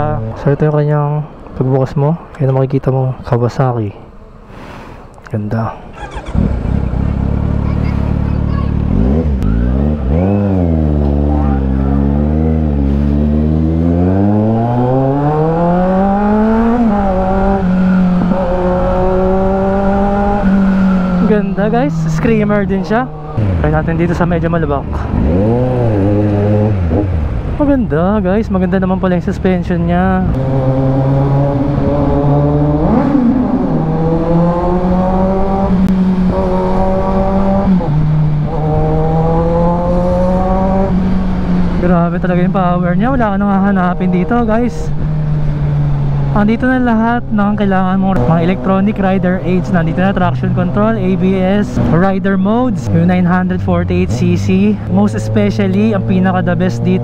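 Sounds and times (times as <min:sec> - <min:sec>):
motorcycle engine revving: 0:05.9 - 0:57.0.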